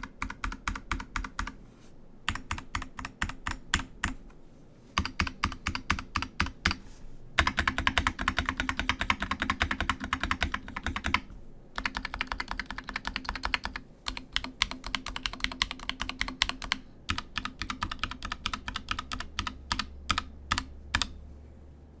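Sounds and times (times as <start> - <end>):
mechanical keyboard typing: 0.0 - 1.6, 2.3 - 4.2, 5.0 - 6.8, 7.4 - 21.2.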